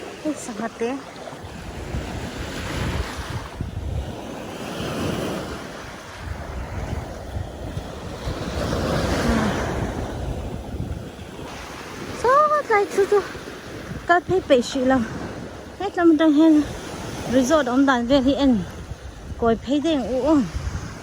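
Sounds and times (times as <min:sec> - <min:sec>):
sea waves washing onto beach: 0:00.0 - 0:21.0
wind buffeting microphone: 0:00.0 - 0:21.0.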